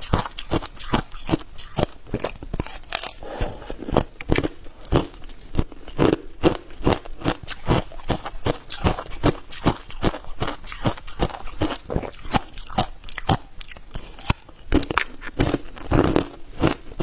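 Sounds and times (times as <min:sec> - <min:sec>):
ice cubes crunching when chewed: 0:00.0 - 0:17.0.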